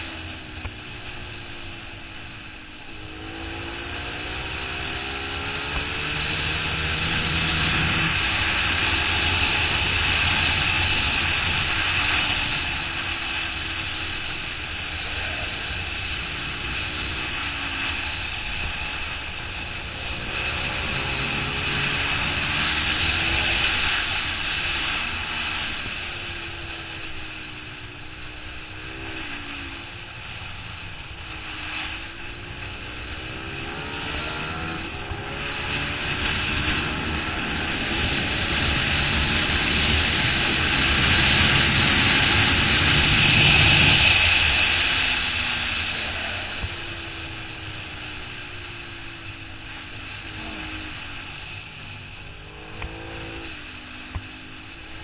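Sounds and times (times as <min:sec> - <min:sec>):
motorcycle engine revving: 0:00.0 - 0:55.0
wind noise: 0:00.0 - 0:55.0.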